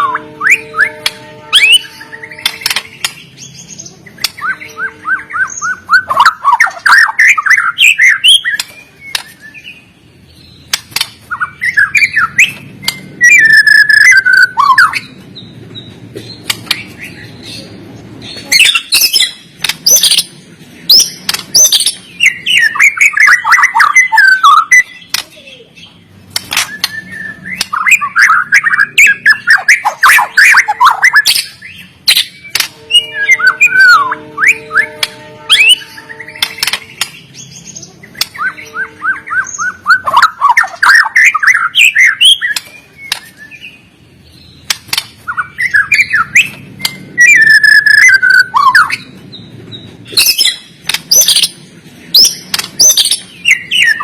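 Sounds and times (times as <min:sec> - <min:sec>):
songbird singing whistled notes: 0:00.0 - 0:16.0, 0:20.9 - 0:51.6, 0:52.2 - 0:54.0.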